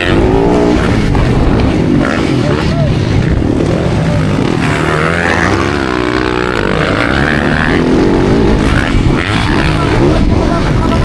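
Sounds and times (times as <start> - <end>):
motocross bike engines racing: 0.0 - 11.0.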